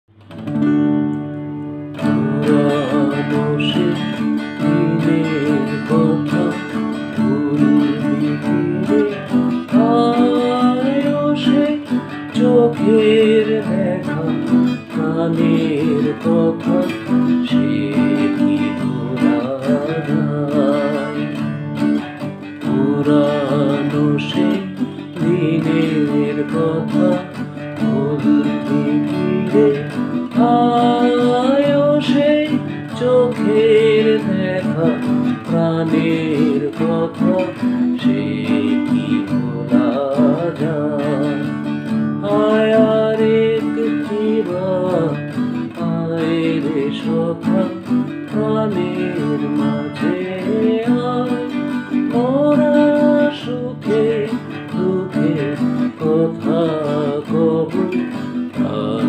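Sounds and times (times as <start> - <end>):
acoustic guitar strumming: 0.1 - 59.0
man singing: 1.9 - 59.0.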